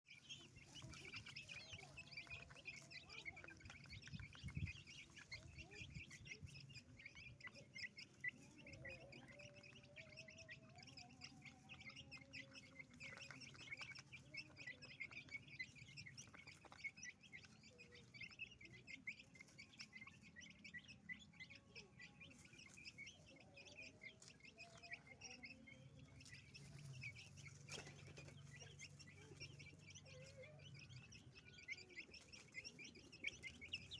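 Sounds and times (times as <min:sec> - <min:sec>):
chicks pecking at feed: 0:00.0 - 0:33.9
chicks peeping: 0:00.0 - 0:33.9.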